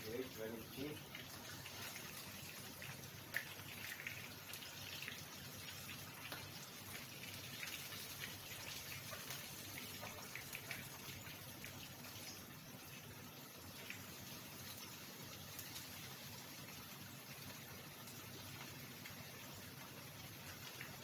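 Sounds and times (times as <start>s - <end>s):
food sizzling in hot oil: 0.0s - 21.0s
oil crackles and pops: 0.8s - 21.0s.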